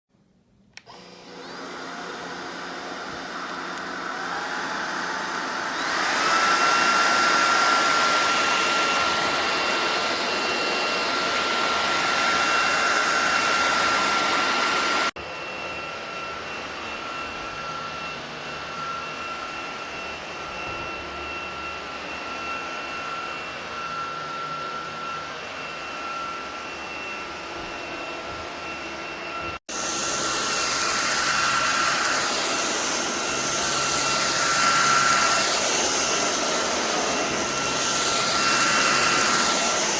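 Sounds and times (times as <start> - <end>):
stick vacuum running: 0.7 - 39.9.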